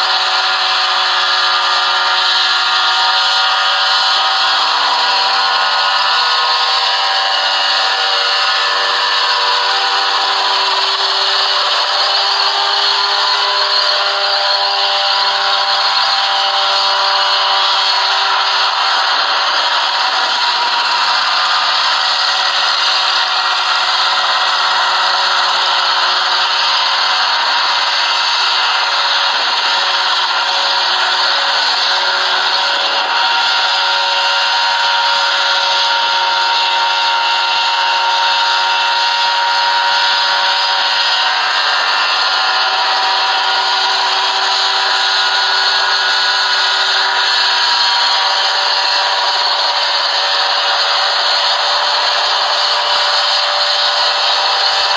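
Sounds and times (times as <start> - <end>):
helicopter engine buzzing: 0.0 - 54.9.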